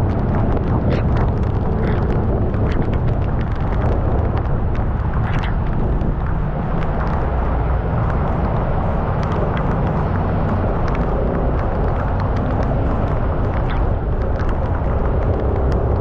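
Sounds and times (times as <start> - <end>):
raindrops ticking on microphone: 0.0 - 16.0
wind buffeting microphone: 0.0 - 16.0.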